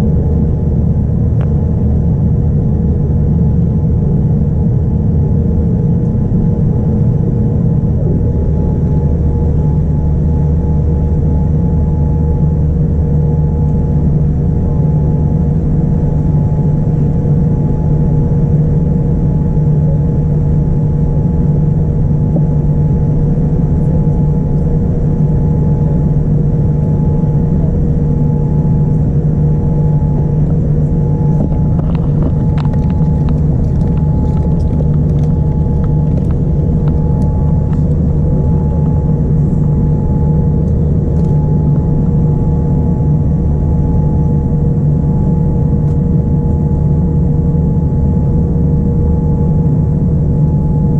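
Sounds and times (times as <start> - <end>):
jet engine drone in cabin: 0.0 - 50.9.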